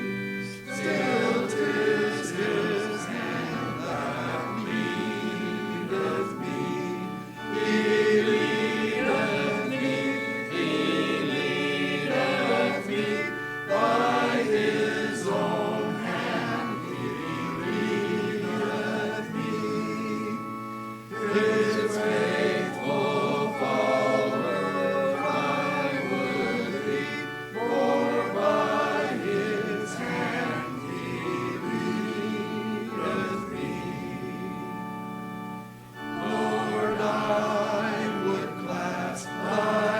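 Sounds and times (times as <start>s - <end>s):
congregation singing a hymn: 0.0s - 39.9s
instrumental accompaniment: 0.0s - 39.9s.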